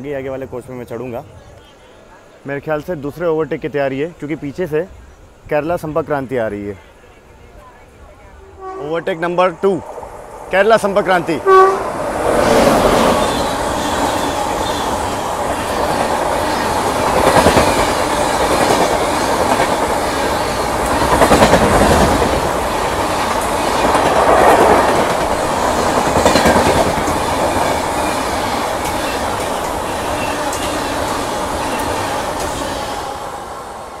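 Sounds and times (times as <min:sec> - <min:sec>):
passenger train passing at speed: 0:06.8 - 0:34.0.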